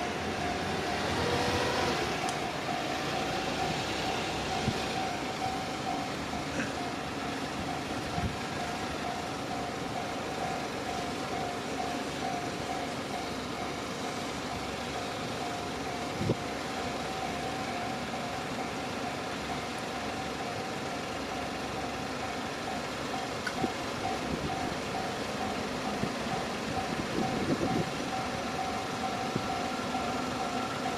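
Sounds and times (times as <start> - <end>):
level crossing warning bell: 0.0 - 30.9.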